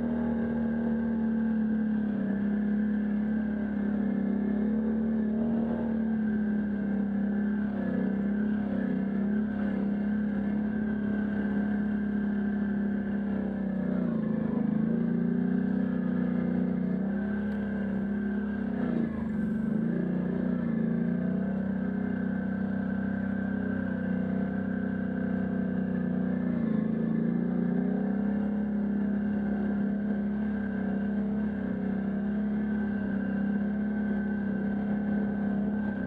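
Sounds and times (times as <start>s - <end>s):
quad bike engine running: 0.0s - 36.0s.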